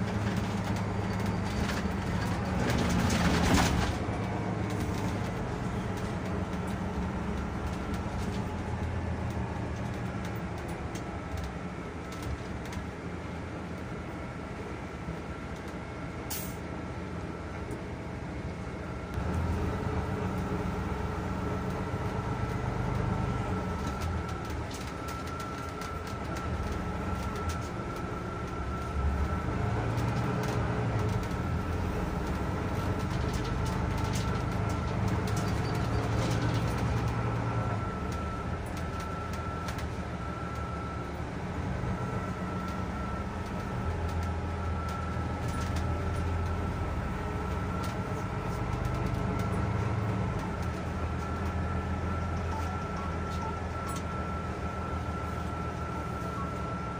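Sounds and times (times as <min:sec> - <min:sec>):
bus engine rumbling: 0:00.0 - 0:56.9.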